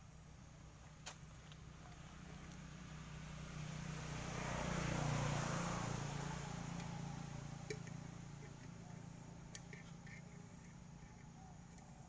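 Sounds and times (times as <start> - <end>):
motor vehicle passing by: 1.5 - 11.3.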